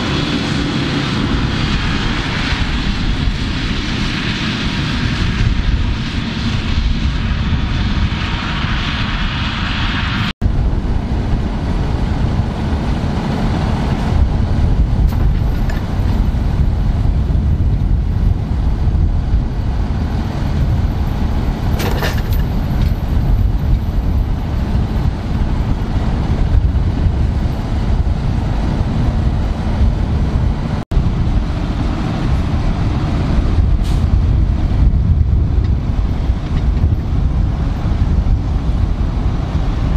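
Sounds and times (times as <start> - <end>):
tractor diesel engine rumbling: 0.0 - 9.2, 10.4 - 39.9.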